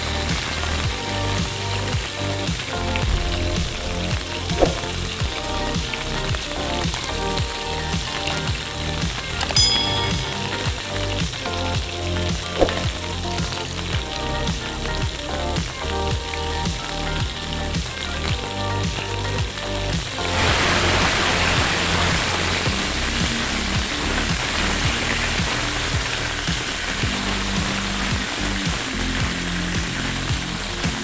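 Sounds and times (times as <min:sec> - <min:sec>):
background music with beat: 0:00.0 - 0:31.0
food sizzling in oil: 0:00.0 - 0:31.0.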